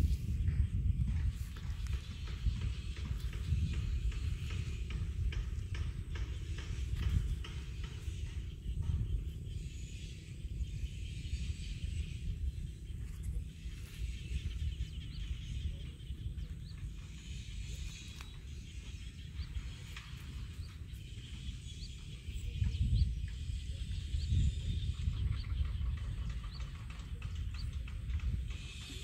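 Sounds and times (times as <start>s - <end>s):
continuous high chirring: 0.0s - 29.0s
wind rumble on microphone: 0.0s - 29.0s.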